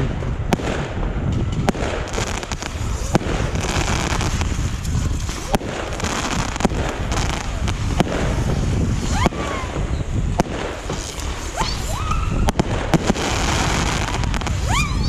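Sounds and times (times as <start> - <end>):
steady low rumble: 0.0 - 11.6, 12.2 - 15.0
fireworks cracks and bangs: 0.0 - 15.0
fireworks whistling: 1.6 - 15.0.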